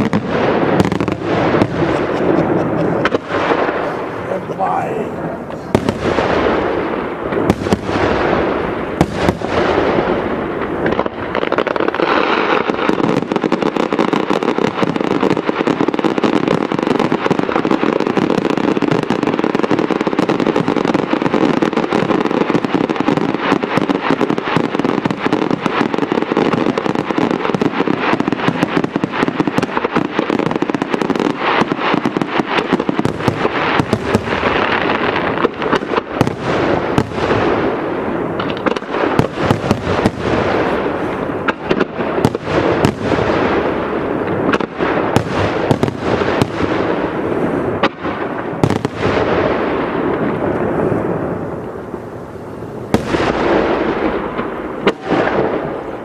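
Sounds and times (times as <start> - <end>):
fireworks crackle: 0.0 - 56.0
sharp firework bangs: 0.0 - 56.0.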